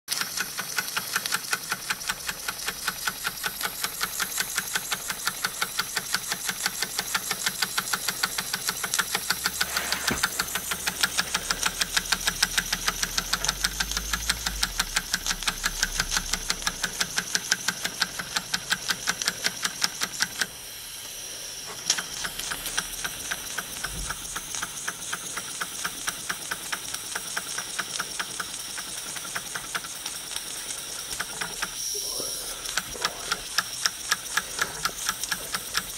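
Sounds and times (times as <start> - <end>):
toy steam engine cylinder beats: 0.1 - 35.9
steam hiss: 1.6 - 35.9.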